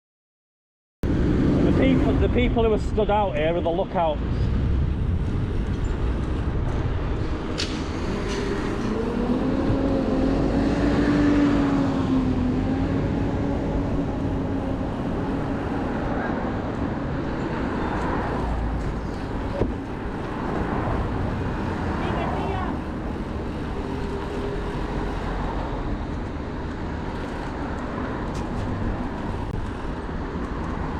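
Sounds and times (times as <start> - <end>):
road rumble: 1.0 - 30.9
road traffic: 1.0 - 30.9
wind on microphone: 4.2 - 30.9.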